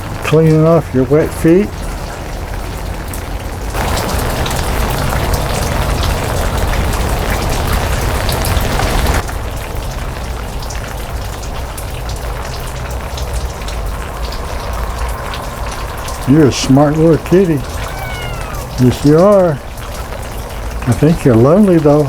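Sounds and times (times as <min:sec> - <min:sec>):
rain drops ticking: 0:00.0 - 0:22.0.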